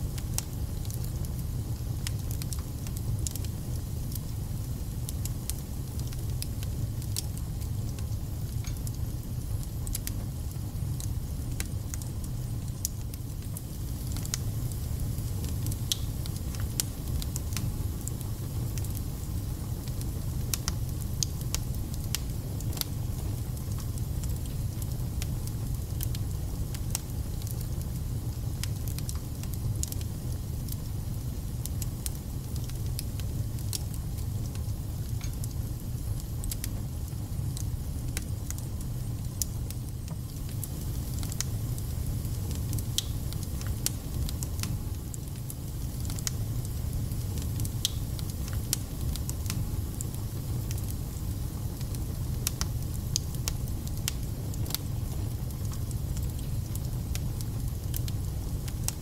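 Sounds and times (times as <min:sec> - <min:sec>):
fire rumbling: 0:00.0 - 0:59.0.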